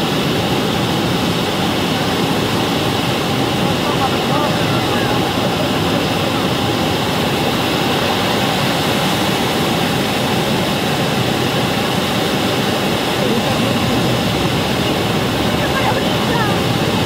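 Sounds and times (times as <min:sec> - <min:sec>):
waterfall roar: 0:00.0 - 0:17.0
wind on microphone: 0:00.0 - 0:17.0.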